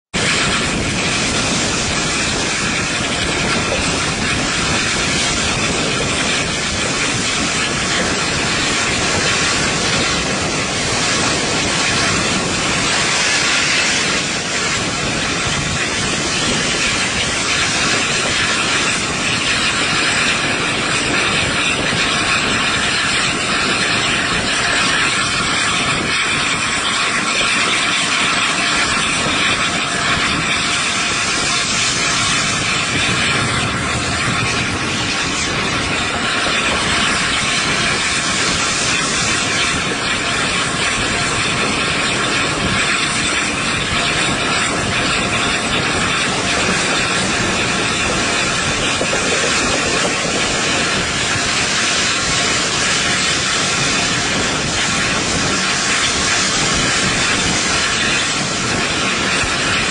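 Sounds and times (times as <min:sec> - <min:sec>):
train running noise: 0:00.0 - 0:59.9
wind rushing: 0:00.2 - 0:59.9.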